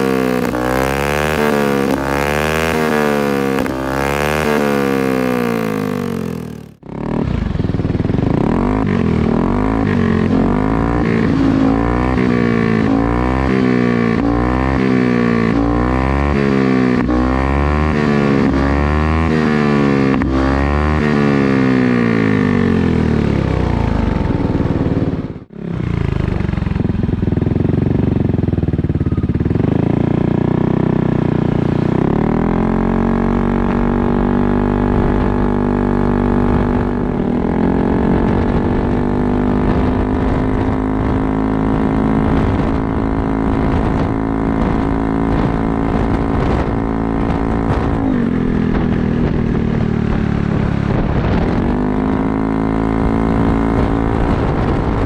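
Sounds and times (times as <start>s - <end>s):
scooter engine revving: 0.0s - 55.0s.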